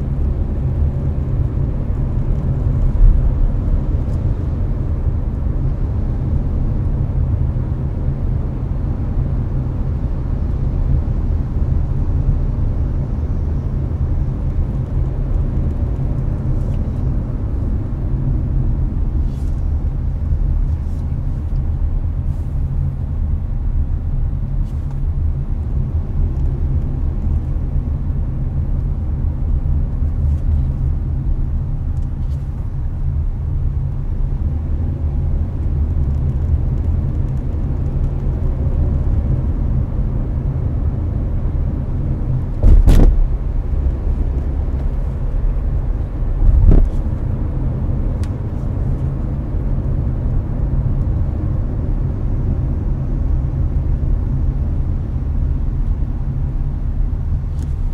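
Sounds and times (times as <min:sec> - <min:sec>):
air conditioner blowing: 0:00.0 - 0:57.9
road and tyre rumble: 0:00.0 - 0:57.9.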